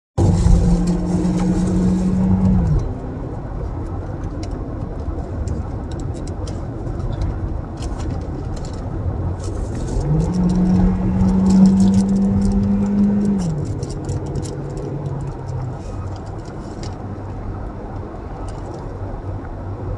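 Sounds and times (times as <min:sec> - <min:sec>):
car rumble: 0:00.2 - 0:19.9.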